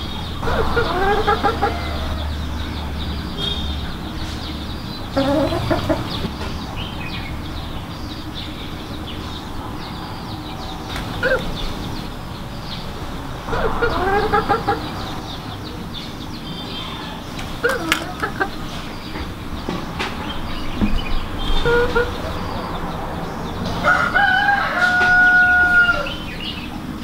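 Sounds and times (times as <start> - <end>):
hens clucking: 0.0 - 7.6, 8.6 - 27.0.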